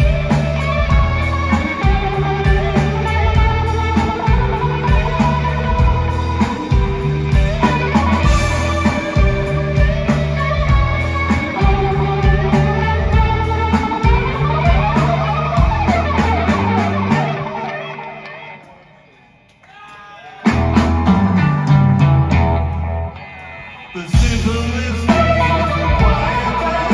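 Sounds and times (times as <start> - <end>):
live rock band playing: 0.0 - 18.8, 20.4 - 26.9
electric guitar: 0.0 - 19.2, 20.5 - 26.9.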